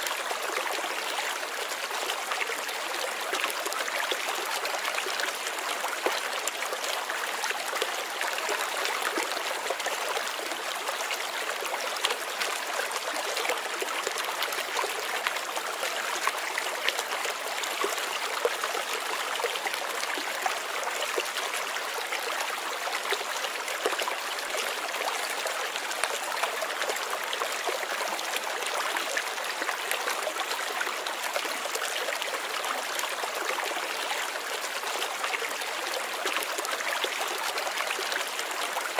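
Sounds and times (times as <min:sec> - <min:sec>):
stream water trickling and splashing: 0:00.0 - 0:38.9.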